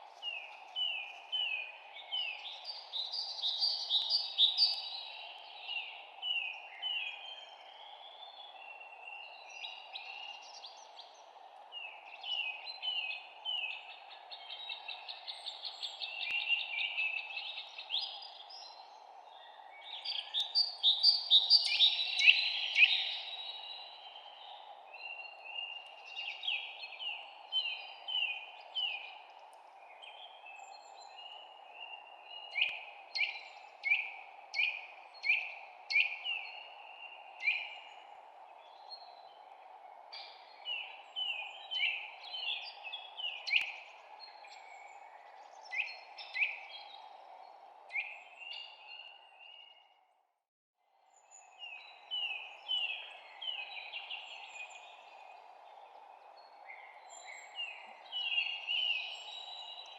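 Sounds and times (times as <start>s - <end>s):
songbirds singing and chirping: 0.0s - 50.0s, 50.9s - 59.9s.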